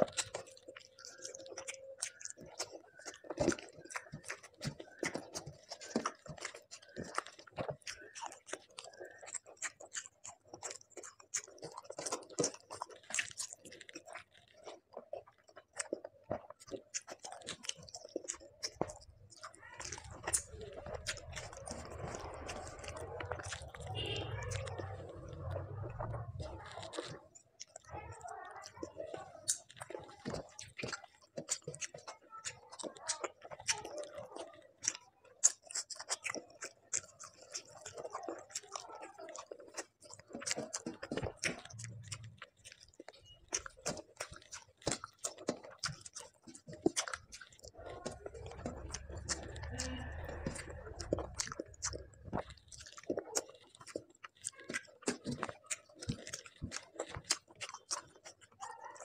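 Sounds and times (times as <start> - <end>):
wet chewing with mouth clicks: 0.0 - 59.0.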